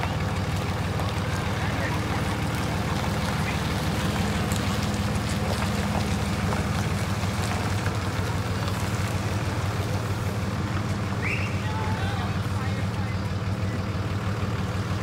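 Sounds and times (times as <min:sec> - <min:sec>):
truck engine running at low revs: 0:00.0 - 0:15.0.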